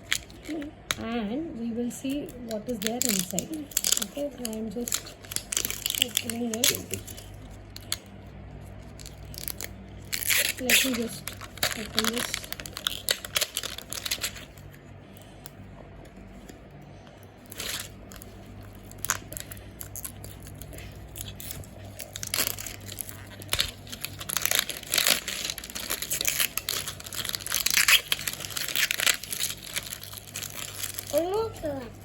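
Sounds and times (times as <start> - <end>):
toy packaging crinkling and tearing: 0.0 - 1.0, 1.9 - 15.4, 17.4 - 32.0.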